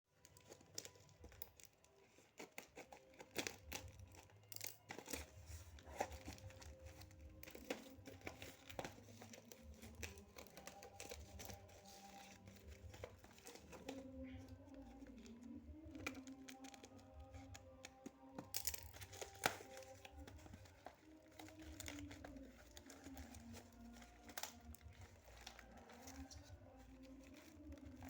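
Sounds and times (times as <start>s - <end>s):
plastic wrapper tearing and crinkling: 0.2s - 28.0s.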